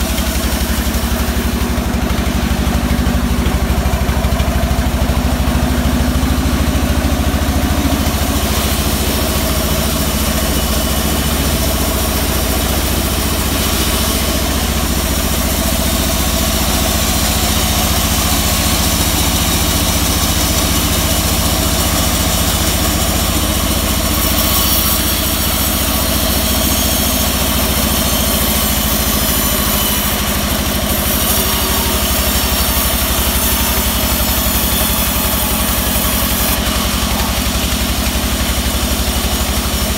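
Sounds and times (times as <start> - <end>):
sawmill drive humming: 0.0 - 39.9.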